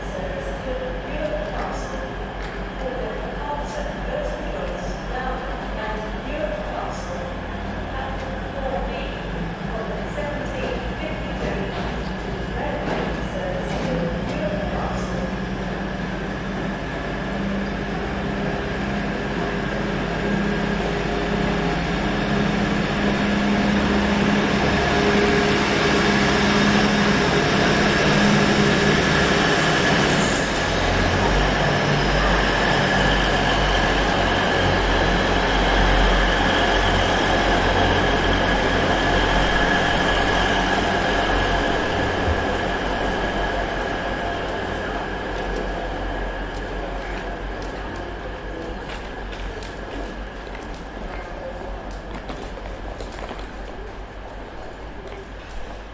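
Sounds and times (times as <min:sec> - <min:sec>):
diesel train engines working: 0:00.0 - 0:55.9.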